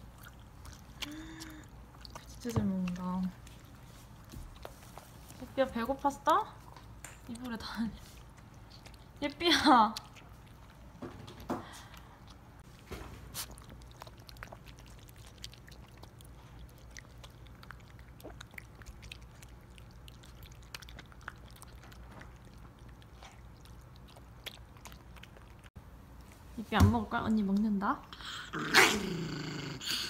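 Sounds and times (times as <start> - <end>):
dog chewing food: 0.0 - 25.8.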